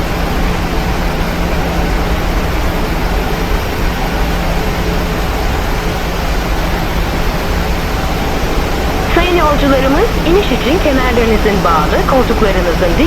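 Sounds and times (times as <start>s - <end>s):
airflow and engine noise: 0.0s - 13.0s
faint steady hum: 0.0s - 13.0s.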